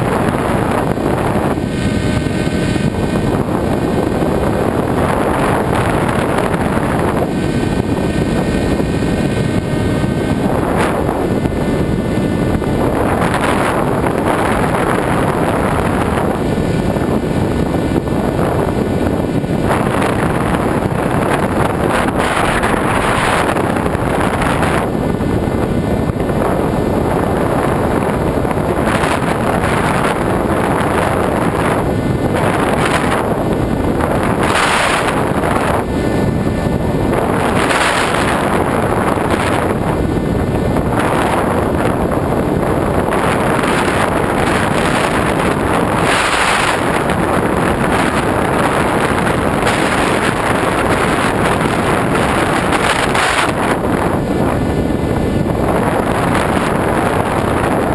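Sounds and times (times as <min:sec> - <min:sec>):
wind rushing over microphone: 0:00.0 - 0:57.9.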